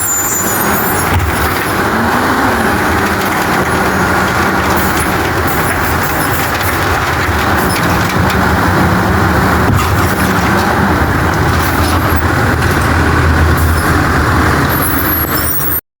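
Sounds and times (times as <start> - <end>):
truck engine revving high: 0.0 - 15.8.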